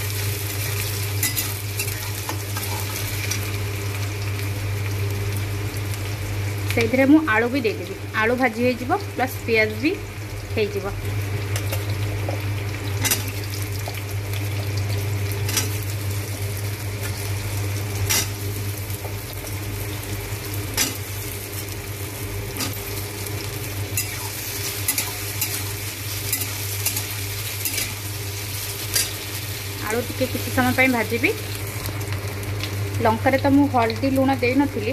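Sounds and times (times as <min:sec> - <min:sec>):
potatoes and onion sizzling in oil: 0:00.0 - 0:34.9.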